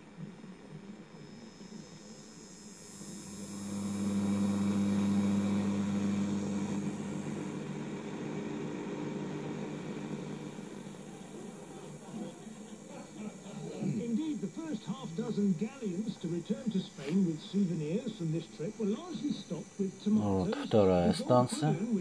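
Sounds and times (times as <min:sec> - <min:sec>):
low hum: 0:00.0 - 0:22.0
radio static hiss: 0:00.0 - 0:22.0.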